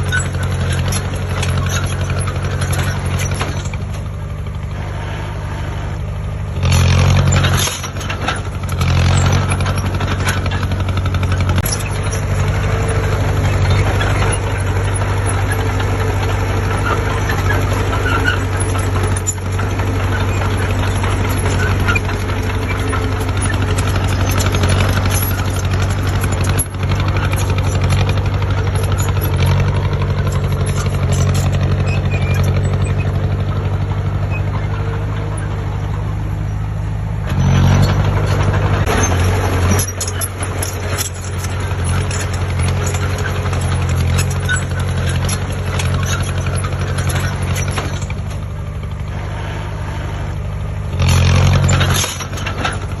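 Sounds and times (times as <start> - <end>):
heavy diesel engine revving: 0.0 - 53.0.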